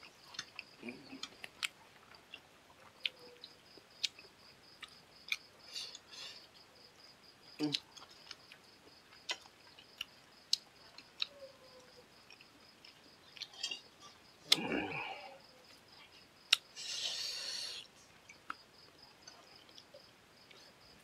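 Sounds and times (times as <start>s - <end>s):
man chewing food: 0.0s - 21.0s.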